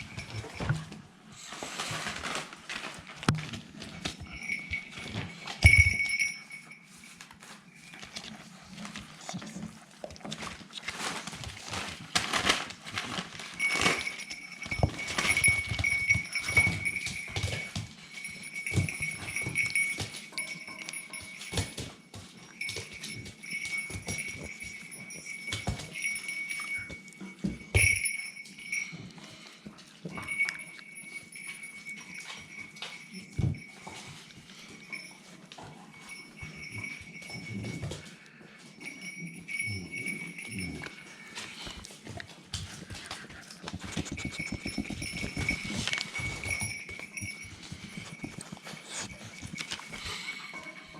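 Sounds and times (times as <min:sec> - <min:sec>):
puppies scuffling: 0:00.0 - 0:50.9.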